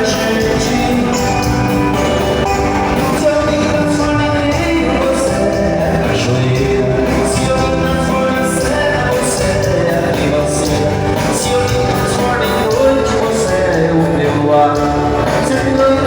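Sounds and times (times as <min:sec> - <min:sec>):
live band music: 0:00.0 - 0:16.0
man singing: 0:00.0 - 0:16.0.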